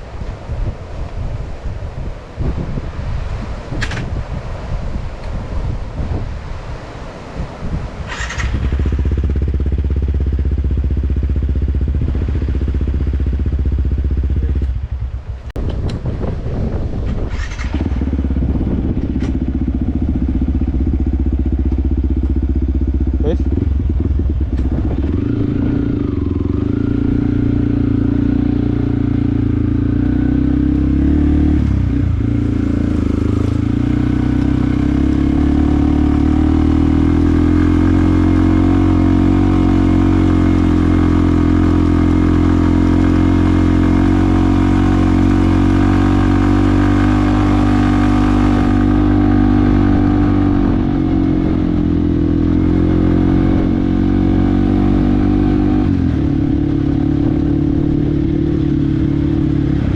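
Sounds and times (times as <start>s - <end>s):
motorcycle engine running: 8.1s - 59.9s.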